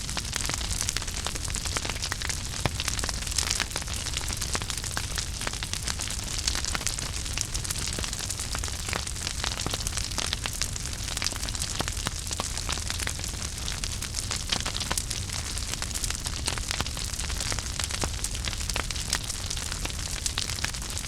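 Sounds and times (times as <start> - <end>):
fire crackling and popping: 0.0 - 21.0
fire hiss and low rumble: 0.0 - 21.0.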